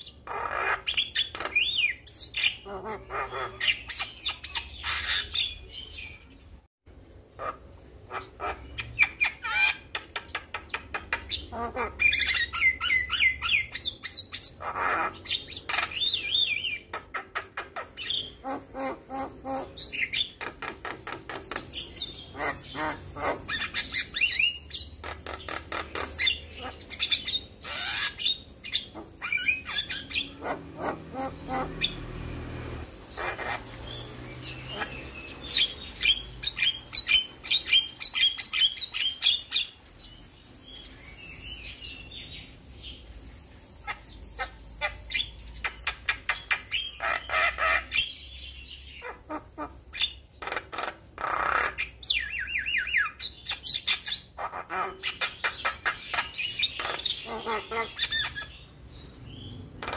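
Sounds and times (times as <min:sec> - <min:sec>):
bird singing with chattering notes: 0:00.0 - 0:06.7, 0:07.4 - 0:32.3, 0:32.9 - 0:59.9.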